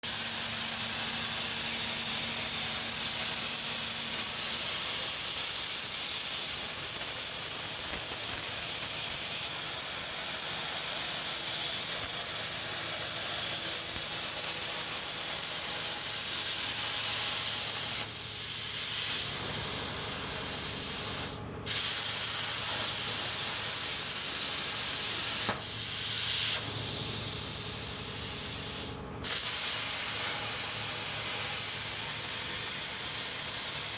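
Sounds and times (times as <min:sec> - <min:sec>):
plasma cutter torch hissing: 0:00.0 - 0:33.9.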